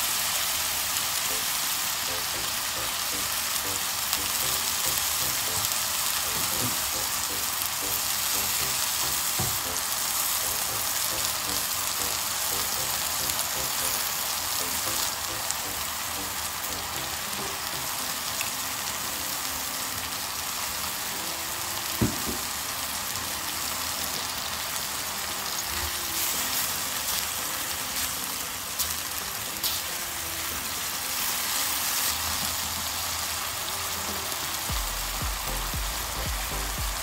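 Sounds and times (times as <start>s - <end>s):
chicken frying in oil: 0.0s - 37.0s.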